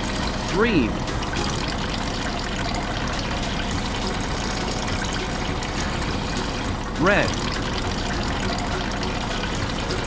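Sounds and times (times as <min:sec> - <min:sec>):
liquid pouring: 0:00.0 - 0:10.0.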